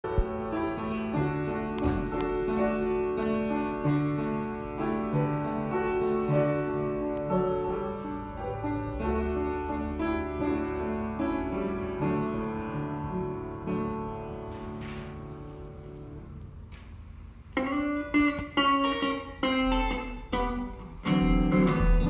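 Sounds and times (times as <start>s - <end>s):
slow keyboard music: 0.0s - 22.0s.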